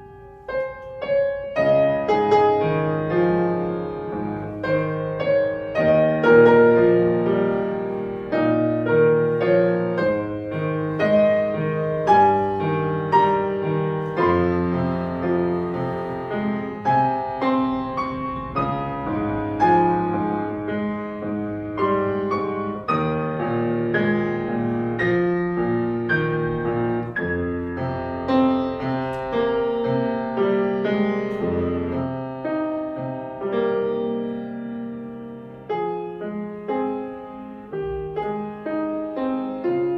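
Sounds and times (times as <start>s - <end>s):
slow solo piano: 0.0s - 39.9s.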